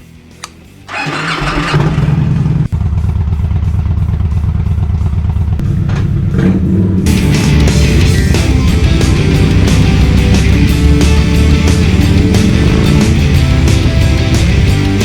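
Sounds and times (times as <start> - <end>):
motorcycle engine starting and running: 0.0 - 15.0.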